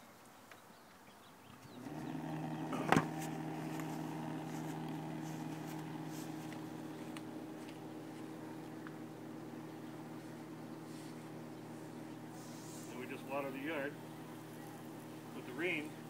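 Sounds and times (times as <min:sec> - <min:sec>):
electric pump humming: 0:01.6 - 0:16.0.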